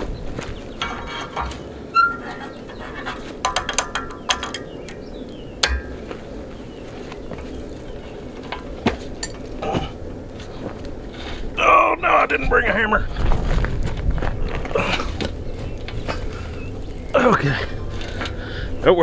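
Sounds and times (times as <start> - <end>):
steel clinking and clanking: 0.0 - 11.3, 14.6 - 19.0.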